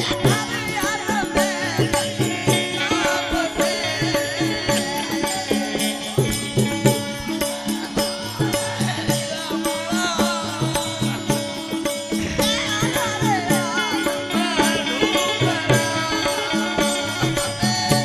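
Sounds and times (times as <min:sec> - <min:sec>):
hand cymbals: 0:00.0 - 0:18.0
men singing devotional song: 0:00.0 - 0:18.0.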